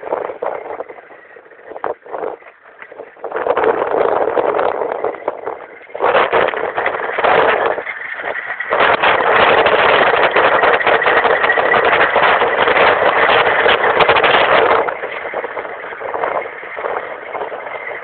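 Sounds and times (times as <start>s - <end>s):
road noise: 0.0s - 18.0s
wind rushing: 0.0s - 18.0s.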